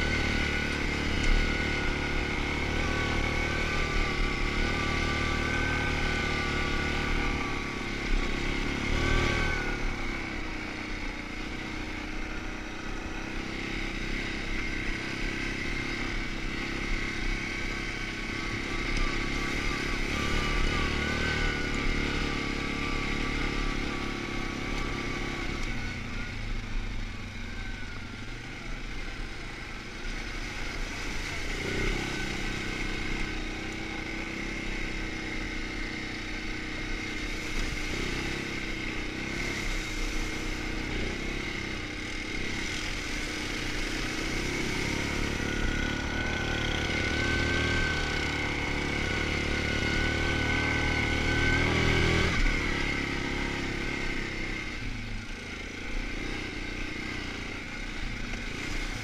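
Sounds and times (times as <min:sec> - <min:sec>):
quad engine revving: 0:00.0 - 0:12.1, 0:12.9 - 0:26.4, 0:30.2 - 0:54.8, 0:55.4 - 0:59.0.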